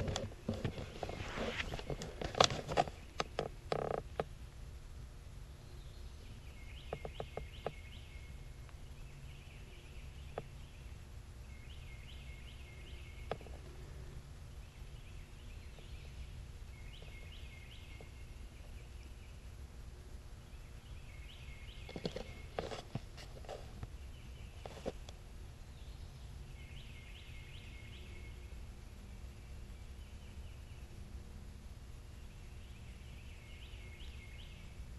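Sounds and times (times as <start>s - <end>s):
faint low rumble: 0.0s - 34.9s.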